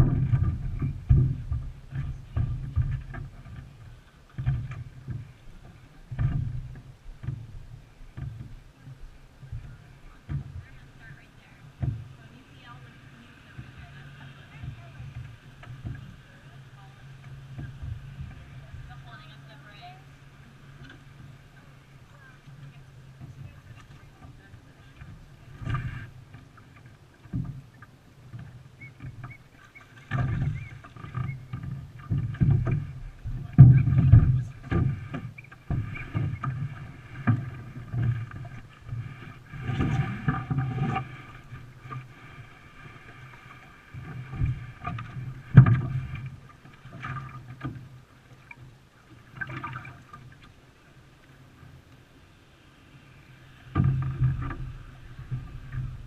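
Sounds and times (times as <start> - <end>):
paddle splashing water: 0.0 - 56.0.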